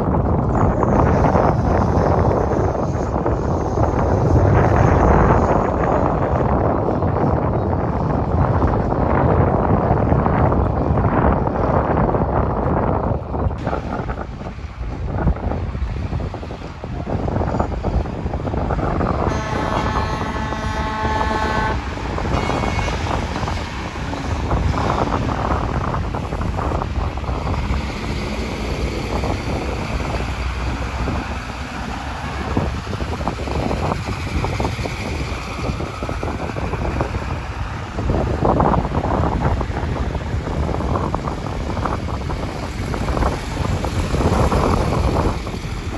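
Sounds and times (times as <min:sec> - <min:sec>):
low rumble of vehicles: 0:00.0 - 0:45.9
wind buffeting microphone: 0:00.0 - 0:45.9.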